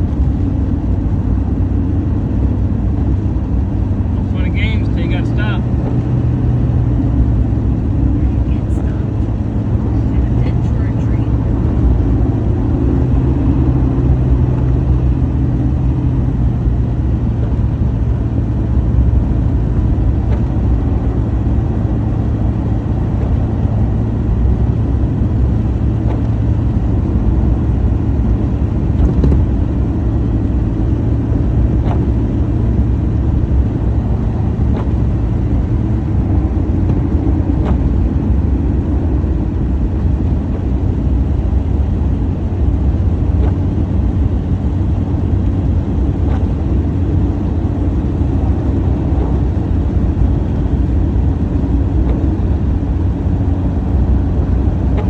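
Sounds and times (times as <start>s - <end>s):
low rumble: 0.0s - 55.0s.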